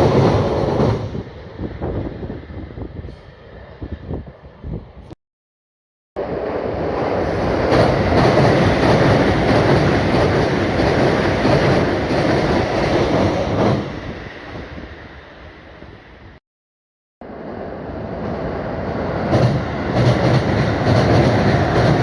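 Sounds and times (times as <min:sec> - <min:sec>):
train wheels rushing on rails: 0:00.0 - 0:04.4, 0:06.2 - 0:16.0, 0:17.3 - 0:22.0.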